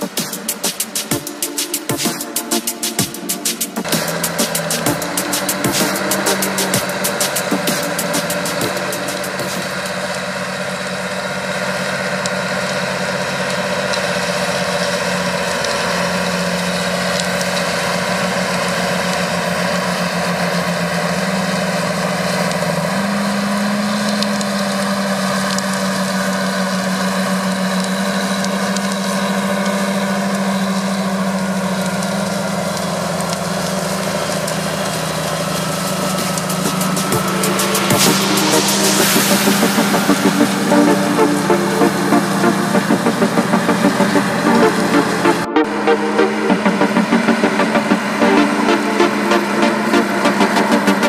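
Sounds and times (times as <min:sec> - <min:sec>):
tractor diesel engine under load: 0:03.7 - 0:51.0.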